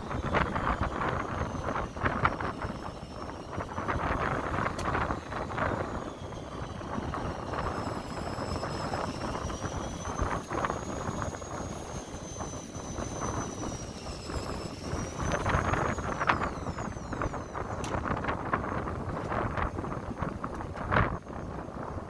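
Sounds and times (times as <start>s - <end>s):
boat engine noise: 0.0s - 22.0s
thin high whine: 0.0s - 22.0s
wind: 0.0s - 22.0s.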